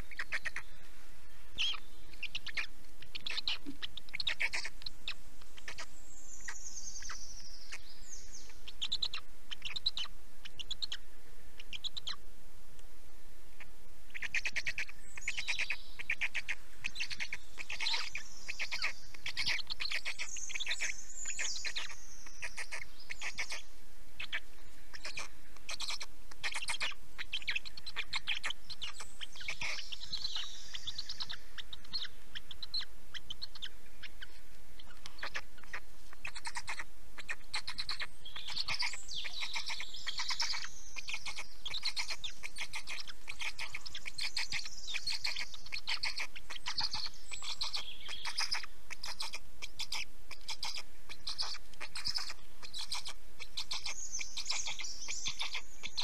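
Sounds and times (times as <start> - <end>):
songbirds chirping trills: 0.0 - 56.0.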